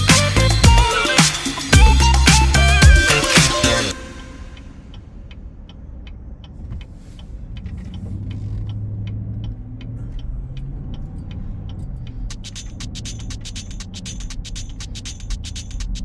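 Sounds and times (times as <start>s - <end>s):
regular ticking: 0.0s - 16.0s
car interior rumble: 1.7s - 16.0s.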